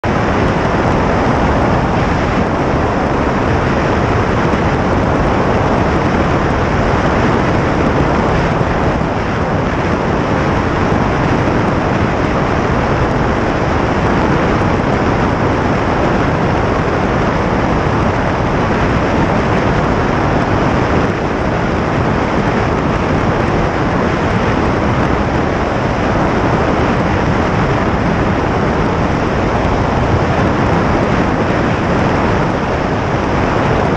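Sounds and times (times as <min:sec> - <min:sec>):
airplane engine: 0:00.0 - 0:33.9
wind buffeting camera: 0:00.0 - 0:33.9.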